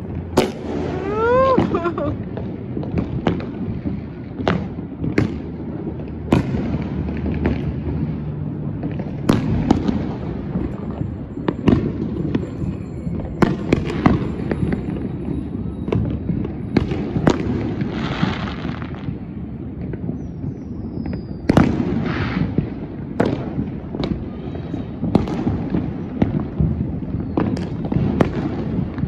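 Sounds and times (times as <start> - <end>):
distant explosions rumbling: 0.0 - 29.0
fireworks bangs and pops: 0.0 - 29.0
fireworks crackle: 0.0 - 29.0.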